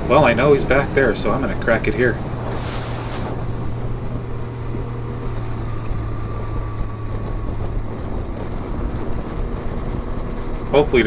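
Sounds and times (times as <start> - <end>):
road noise: 0.0 - 11.0
vehicle engine running: 0.0 - 11.0
wind noise: 0.0 - 11.0.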